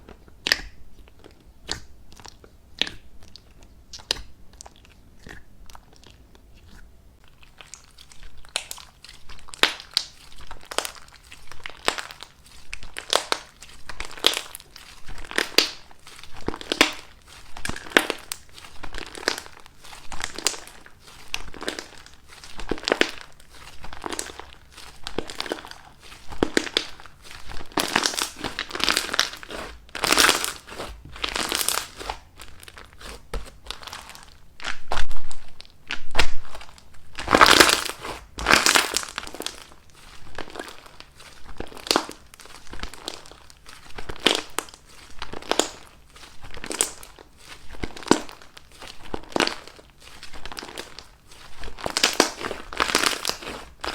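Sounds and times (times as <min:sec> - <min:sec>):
slime squeezed crunchy crinkling: 0:00.0 - 0:53.9.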